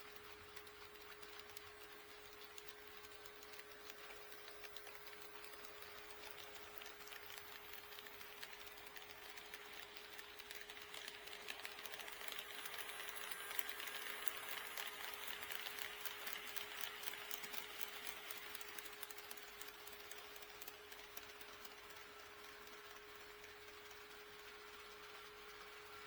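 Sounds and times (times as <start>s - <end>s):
model train motor whirring: 0.0s - 26.0s.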